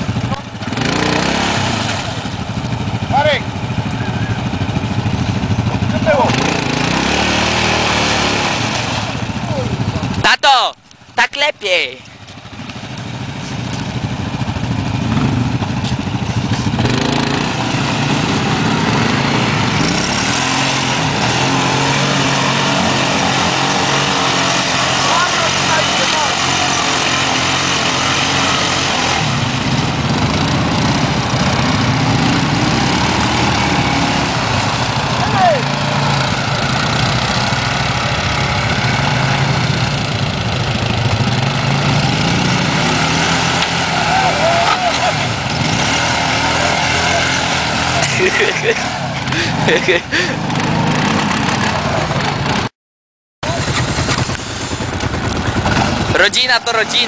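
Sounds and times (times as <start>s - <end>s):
quad bike engines revving: 0.0s - 52.7s, 53.4s - 57.0s.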